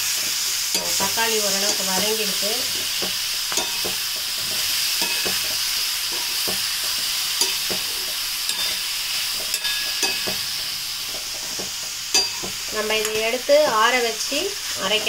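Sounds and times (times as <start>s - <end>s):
food sizzling in frying pan: 0.0s - 15.0s
metal spatula scraping pan: 0.7s - 14.0s.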